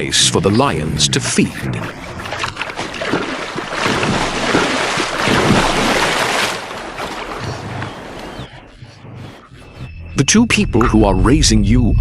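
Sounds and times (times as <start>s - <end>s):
water splashing and churning: 0.0s - 10.0s.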